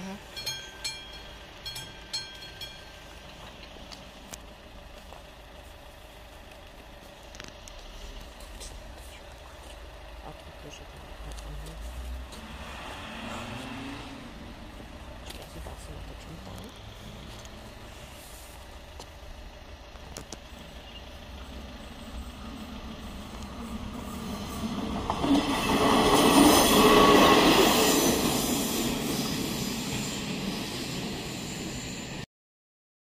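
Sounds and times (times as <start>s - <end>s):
diesel railcar engine running: 0.0s - 32.2s
train wheels on rails: 0.0s - 32.2s.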